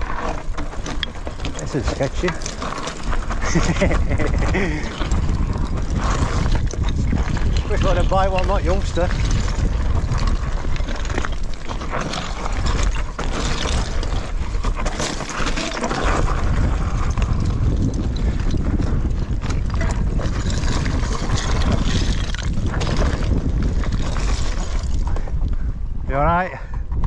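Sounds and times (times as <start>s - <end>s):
bike tyres crunching on scree: 0.0s - 25.4s
stones and bike rattling: 0.0s - 27.0s
wind rumbling on microphone: 0.0s - 27.0s.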